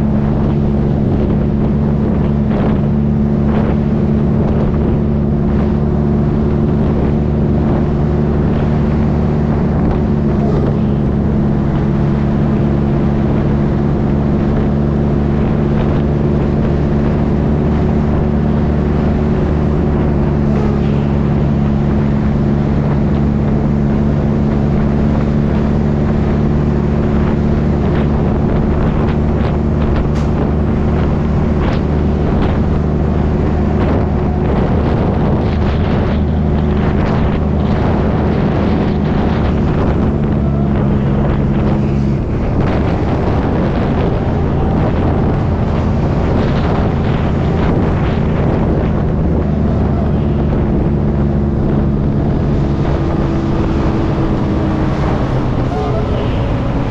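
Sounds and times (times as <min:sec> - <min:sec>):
diesel truck engine running: 0:00.0 - 0:56.9
wind rushing over microphone: 0:00.0 - 0:56.9.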